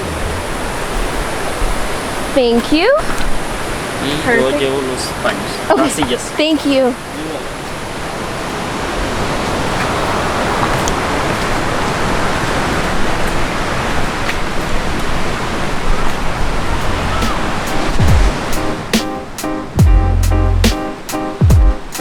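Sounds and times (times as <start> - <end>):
ocean surf washing: 0.0 - 19.8, 20.7 - 22.0.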